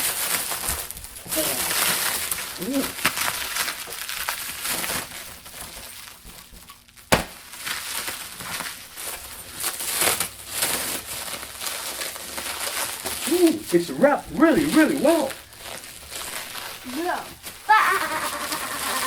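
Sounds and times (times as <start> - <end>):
packing wrap crinkling: 0.0 - 19.0.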